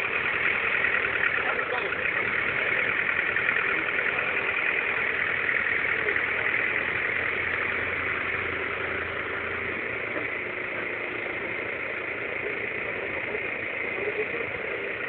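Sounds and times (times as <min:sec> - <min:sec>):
hydraulics lifting: 0:00.0 - 0:15.0
tractor diesel engine running: 0:00.0 - 0:15.0.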